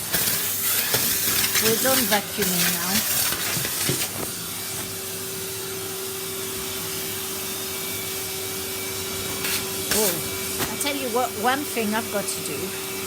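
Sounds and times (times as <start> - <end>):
vacuum cleaner humming: 0.0 - 13.0.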